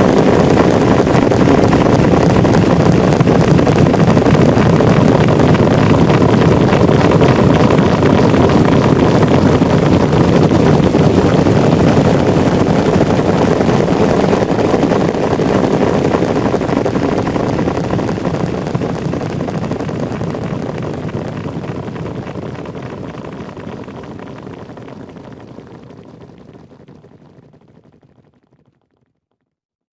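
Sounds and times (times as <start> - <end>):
horses galloping: 0.0 - 28.7.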